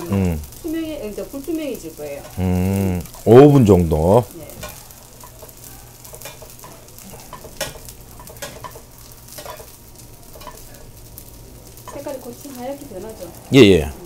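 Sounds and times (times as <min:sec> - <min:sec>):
fish frying in oil: 0:00.0 - 0:14.0.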